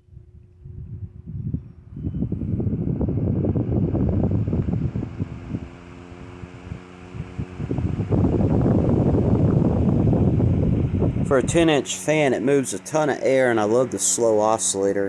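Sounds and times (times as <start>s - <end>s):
fan air buffeting microphone: 0.0s - 15.0s
fan motor hum: 0.0s - 15.0s.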